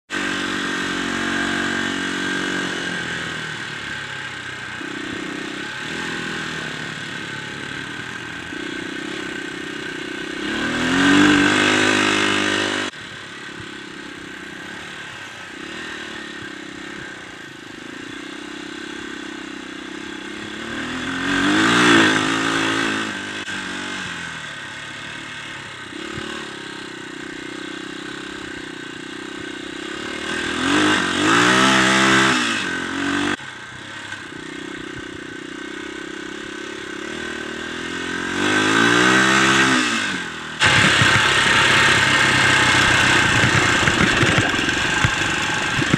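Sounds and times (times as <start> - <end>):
dirt bike engine revving: 0.1 - 45.9.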